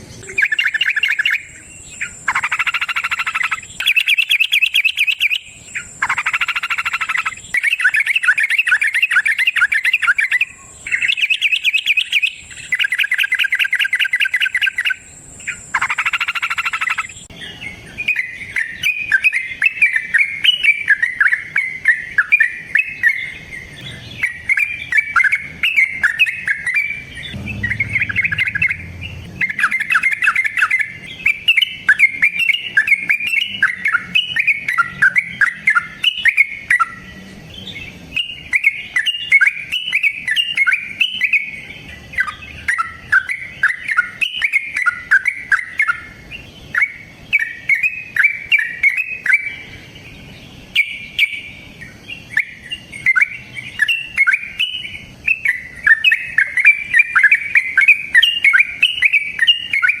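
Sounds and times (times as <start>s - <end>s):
bulbul singing rapid song: 0.0s - 60.0s.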